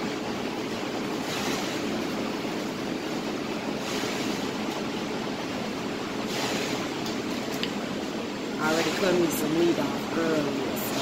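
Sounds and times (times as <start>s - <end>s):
exhaust hood fan rushing: 0.0s - 11.0s.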